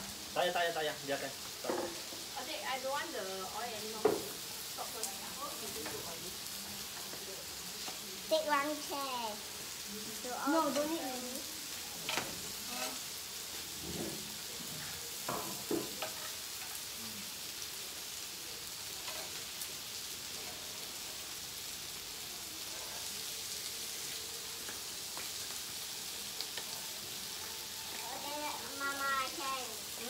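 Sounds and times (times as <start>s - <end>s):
meat sizzling on grill pan: 0.0s - 30.0s.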